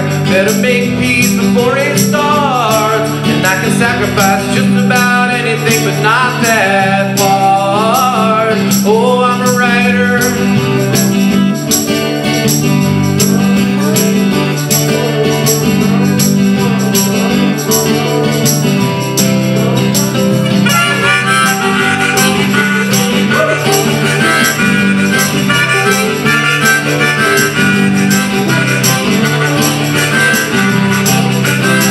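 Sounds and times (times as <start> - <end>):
lead melody: 0.0 - 31.9
strummed acoustic guitars: 0.0 - 31.9.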